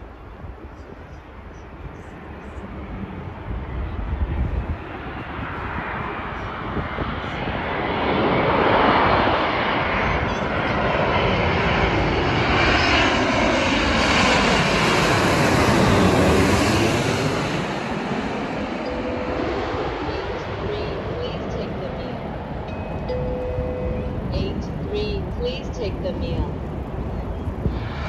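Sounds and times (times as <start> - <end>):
jet airliner passing overhead: 0.0 - 28.0.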